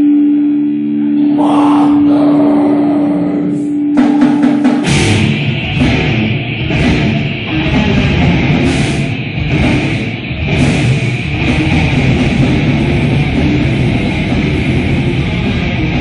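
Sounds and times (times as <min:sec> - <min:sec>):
heavy metal band playing live: 0:00.0 - 0:16.0.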